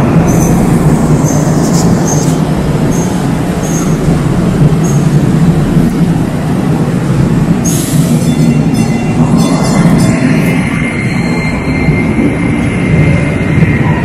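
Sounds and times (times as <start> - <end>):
trains humming at platform: 0.0 - 14.0.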